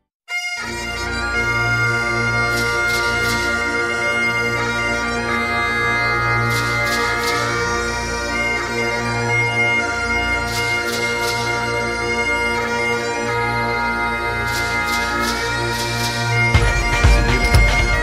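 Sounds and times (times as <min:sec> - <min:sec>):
bagpipes playing over drone: 0:00.3 - 0:18.0.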